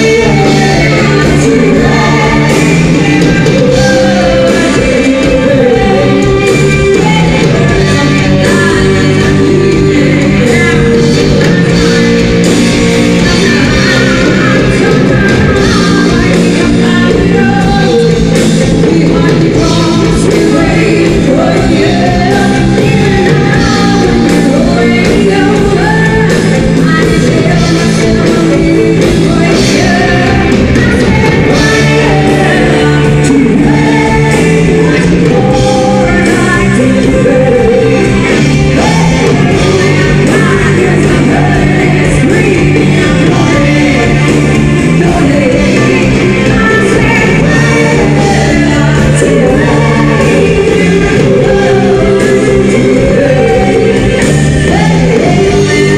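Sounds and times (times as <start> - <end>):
live band playing: 0.0 - 55.9
person singing: 0.0 - 55.9.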